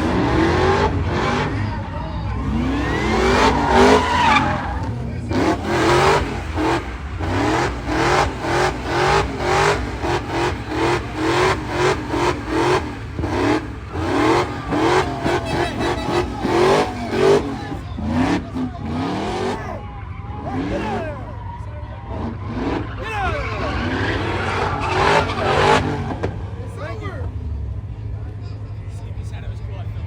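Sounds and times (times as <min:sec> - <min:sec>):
car engine revving: 0:00.0 - 0:28.7.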